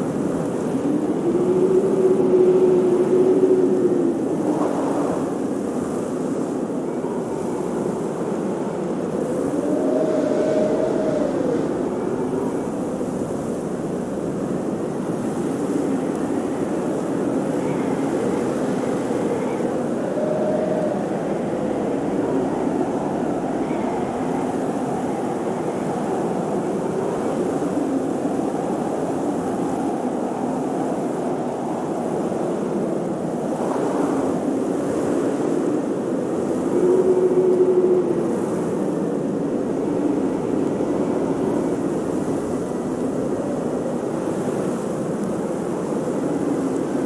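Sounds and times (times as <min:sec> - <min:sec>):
howling blizzard wind: 0:00.0 - 0:47.0.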